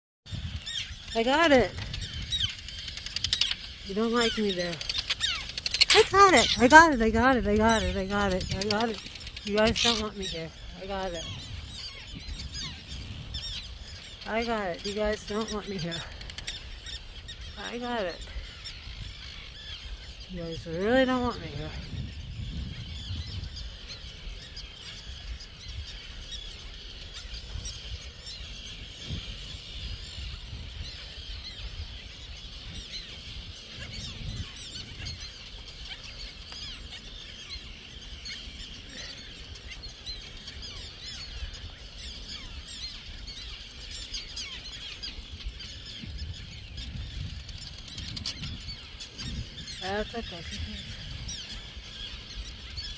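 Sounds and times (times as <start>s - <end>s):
terns calling harshly: 0.3s - 52.9s.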